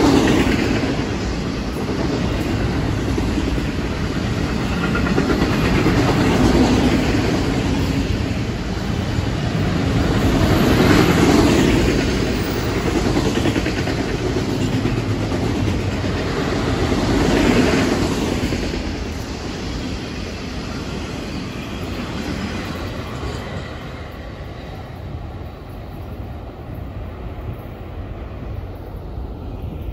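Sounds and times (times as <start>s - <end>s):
train wheels clicking on rails: 0.0s - 29.9s.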